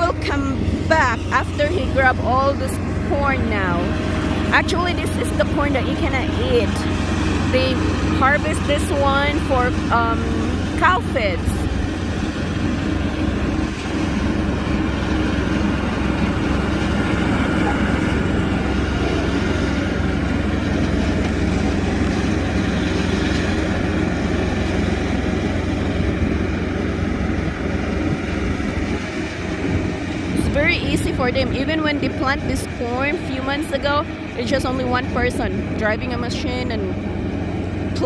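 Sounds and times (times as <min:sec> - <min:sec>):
harvester engine drone: 0:00.0 - 0:38.0.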